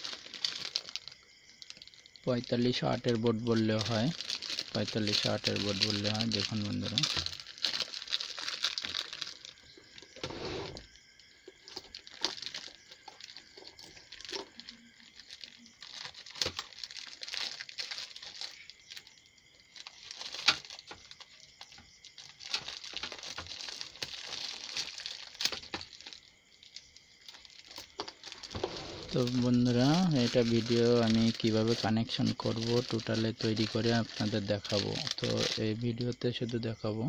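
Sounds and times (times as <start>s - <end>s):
plastic bag crinkling: 0.0s - 10.9s, 11.5s - 36.1s.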